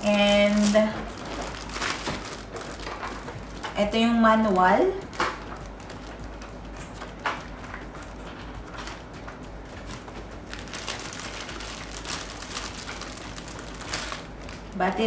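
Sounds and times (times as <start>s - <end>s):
paper handling: 0.0s - 3.9s, 4.5s - 14.8s
low steady hum: 0.0s - 15.0s
plastic bag crinkling: 0.0s - 15.0s.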